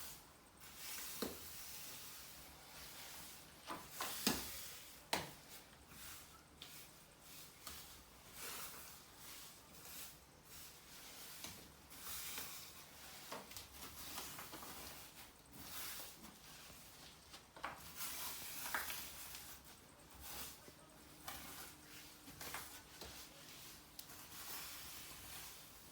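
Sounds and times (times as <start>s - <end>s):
faint scraping and rustling: 0.0s - 25.9s.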